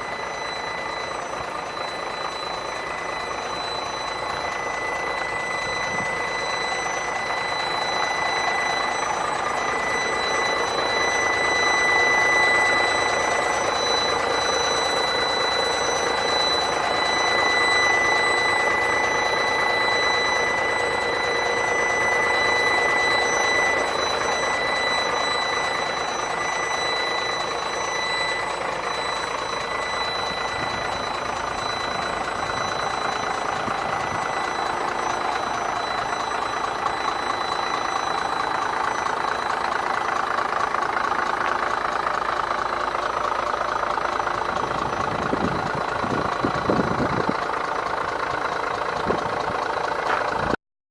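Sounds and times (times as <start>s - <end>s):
diesel truck engine running: 0.0s - 50.6s
high-pitched tone: 0.0s - 50.6s.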